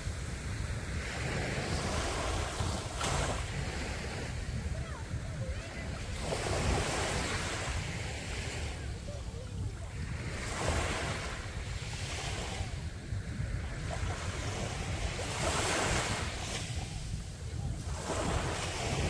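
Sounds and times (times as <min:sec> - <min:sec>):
sea waves breaking on beach: 0:00.0 - 0:19.0
wind rumbling on microphone: 0:00.0 - 0:19.0.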